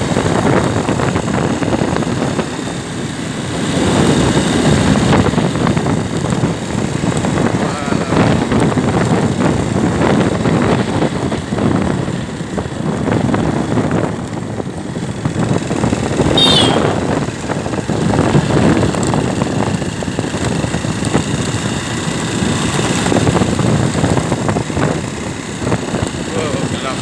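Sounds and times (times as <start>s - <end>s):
storm wind buffeting microphone: 3.7s - 27.0s.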